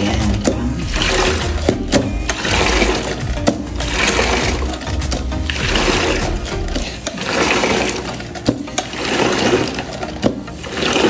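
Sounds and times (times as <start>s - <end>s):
mop churning soapy water: 0.0s - 11.0s.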